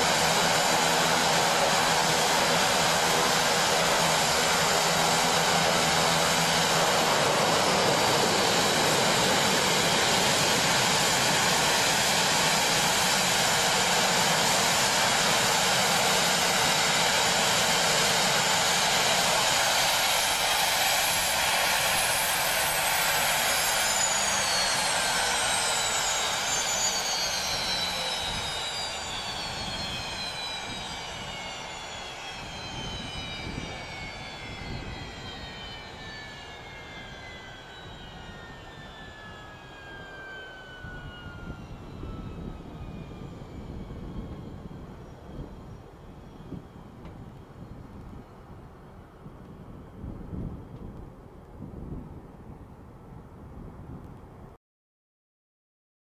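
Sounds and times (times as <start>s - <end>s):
turbines spooling down whine: 0.0s - 51.0s
turbine noise rushing: 0.0s - 52.3s.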